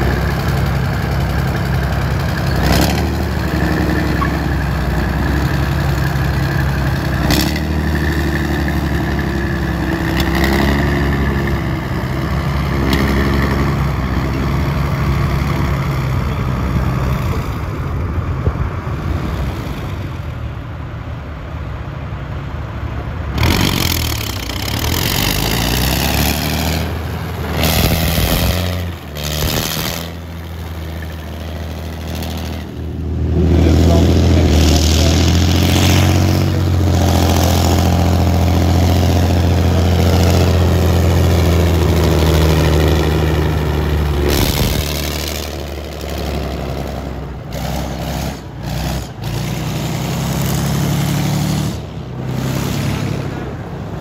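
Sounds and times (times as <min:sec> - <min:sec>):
tracked vehicle diesel engine: 0:00.0 - 0:54.0.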